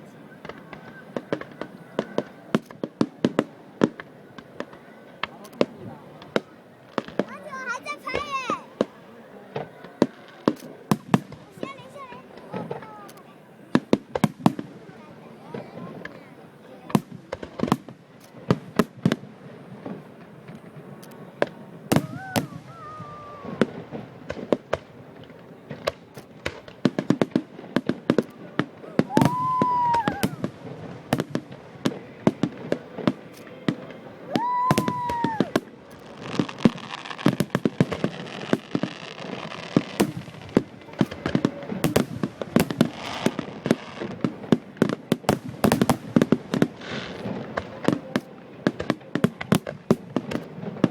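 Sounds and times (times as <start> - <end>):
fireworks bangs and pops: 0.0 - 50.9.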